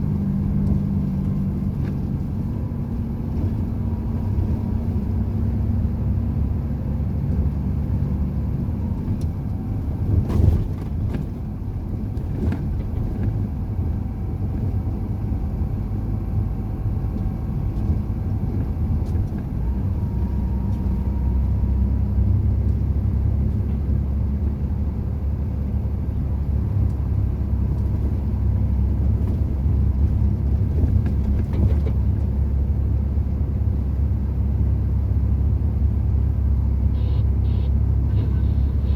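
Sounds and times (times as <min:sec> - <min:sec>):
road noise: 0:00.0 - 0:38.9
truck engine drone: 0:00.0 - 0:38.9.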